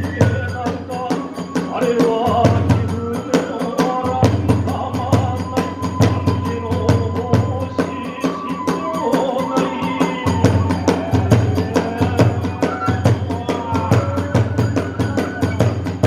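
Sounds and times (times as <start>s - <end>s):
bamboo flute melody: 0.0s - 16.0s
drum beats: 0.0s - 16.0s.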